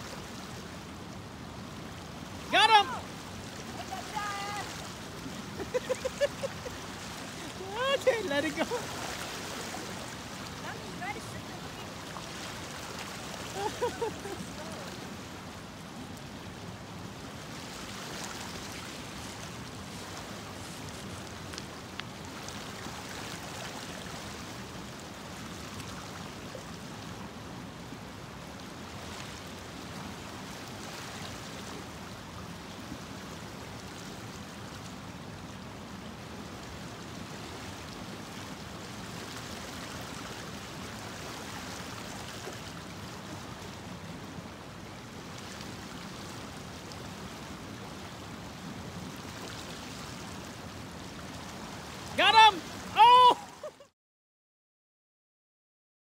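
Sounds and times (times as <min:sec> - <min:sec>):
stream running over rocks: 0:00.0 - 0:53.9.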